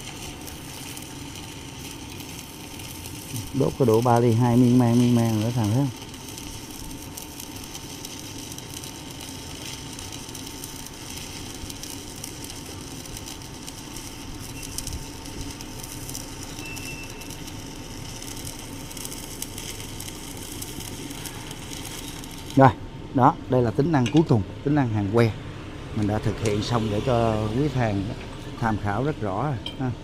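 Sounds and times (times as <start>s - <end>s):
welding arc crackling sizzle: 0.0s - 25.3s, 26.0s - 30.0s.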